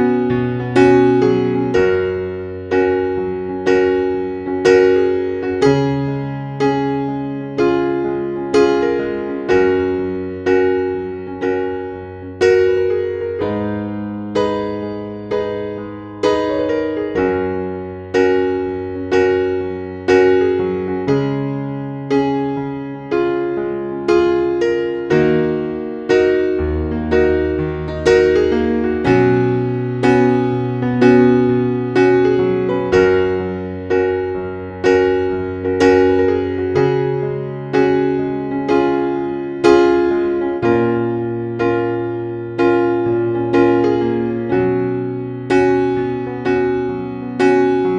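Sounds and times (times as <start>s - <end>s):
slow soft piano chords: 0.0s - 47.9s.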